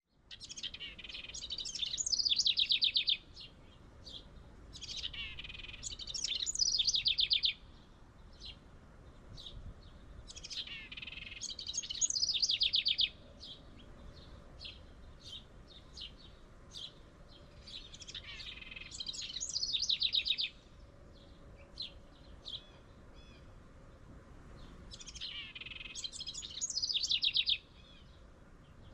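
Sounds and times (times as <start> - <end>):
wren song with trill: 0.1 - 23.6, 24.6 - 28.9.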